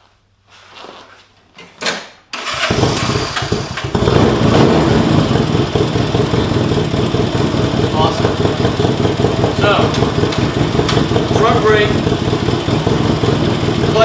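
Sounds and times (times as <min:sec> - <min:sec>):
motorcycle engine starting and running: 0:02.3 - 0:14.0.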